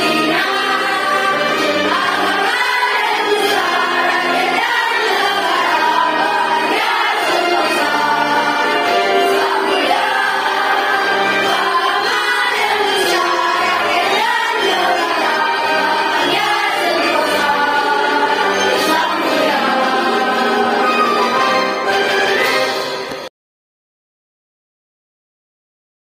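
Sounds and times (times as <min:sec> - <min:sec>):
choir singing in unison: 0:00.0 - 0:23.1
musical accompaniment: 0:00.0 - 0:23.3.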